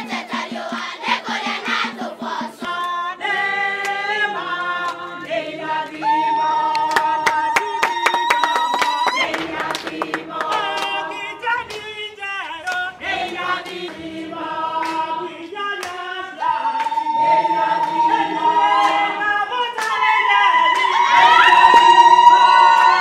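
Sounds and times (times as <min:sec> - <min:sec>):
handclaps: 0:00.0 - 0:17.1, 0:17.8 - 0:18.1, 0:18.8 - 0:20.0, 0:20.7 - 0:23.0
group singing unaccompanied: 0:00.0 - 0:23.0.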